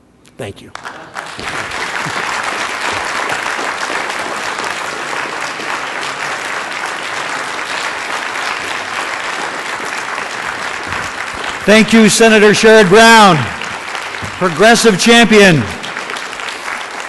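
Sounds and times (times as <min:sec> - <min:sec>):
audience applauding: 0:00.6 - 0:17.0.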